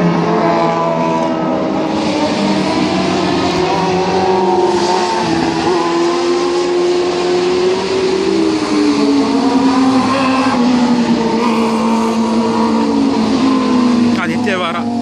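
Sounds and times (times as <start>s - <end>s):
motorcycle racing exhaust: 0.0s - 15.0s.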